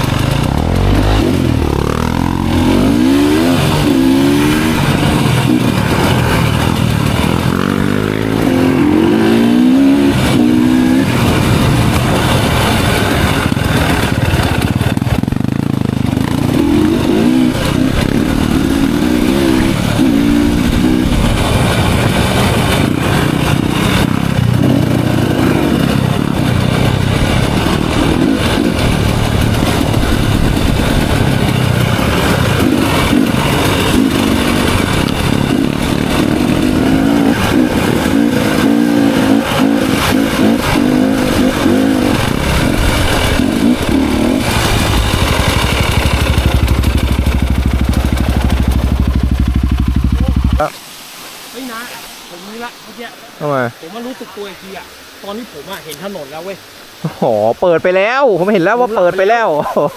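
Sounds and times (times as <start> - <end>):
dirt bike engine revving: 0.0 - 50.8.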